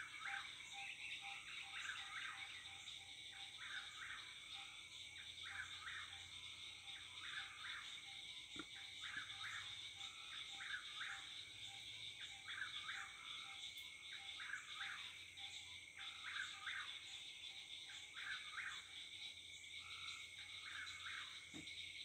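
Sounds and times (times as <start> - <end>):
frogs and insects chorus: 0.0 - 22.0
nightjar singing: 0.0 - 22.0.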